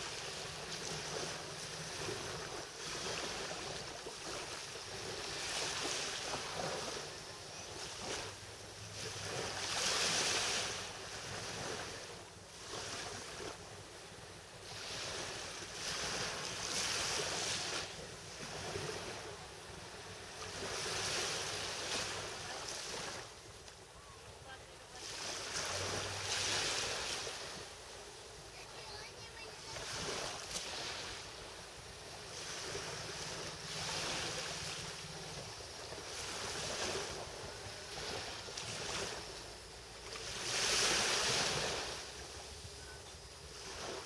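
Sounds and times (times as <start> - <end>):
small waves washing onto beach: 0.0 - 44.0.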